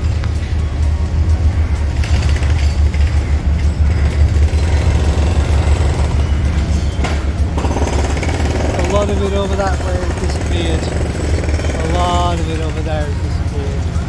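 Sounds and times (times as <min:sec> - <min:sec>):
excavator diesel engines rumbling: 0:00.0 - 0:14.0.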